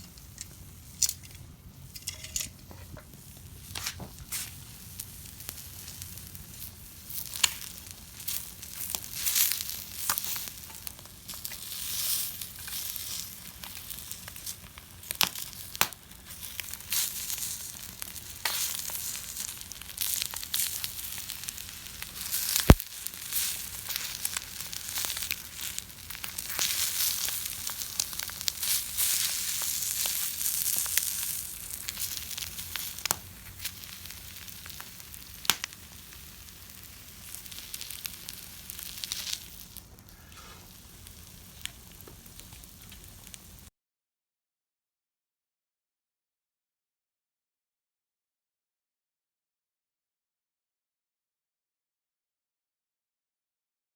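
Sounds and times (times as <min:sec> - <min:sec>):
fire popping: 0:00.0 - 0:43.7
wood fire crackling: 0:00.0 - 0:43.7.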